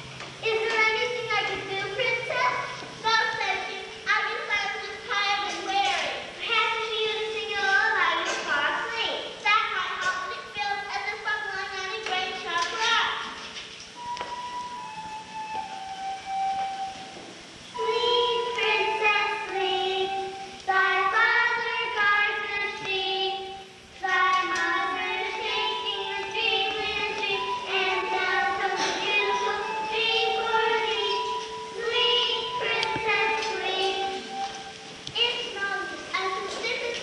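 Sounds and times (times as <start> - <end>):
young child singing a lullaby: 0.4 - 13.3, 17.8 - 37.0.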